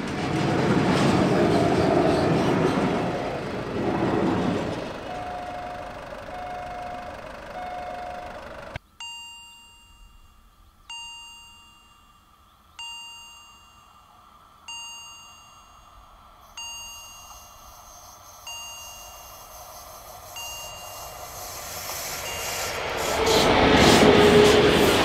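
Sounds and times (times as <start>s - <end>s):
approaching train: 0.0s - 8.8s, 12.6s - 25.0s
level crossing warning bell: 1.6s - 25.0s.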